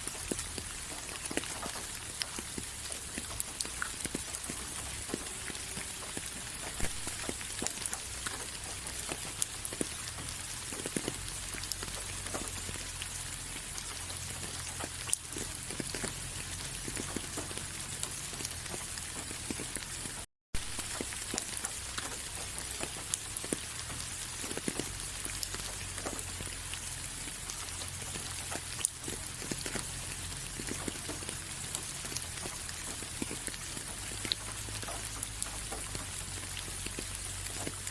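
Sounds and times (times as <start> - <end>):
raindrops ticking: 0.0 - 37.9
steady rain hiss: 0.0 - 37.9.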